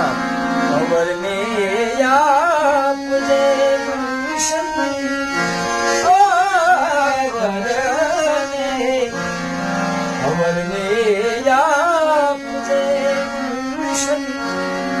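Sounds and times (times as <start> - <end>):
man singing ornamented phrases: 0.0 - 9.2, 10.2 - 15.0
harmonium held notes: 0.0 - 15.0.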